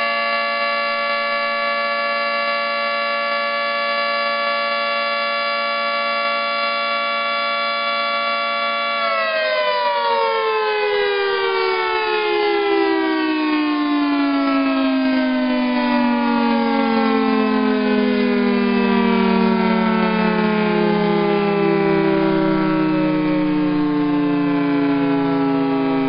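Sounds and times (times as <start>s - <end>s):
two-tone warning siren winding down: 0.0s - 26.0s.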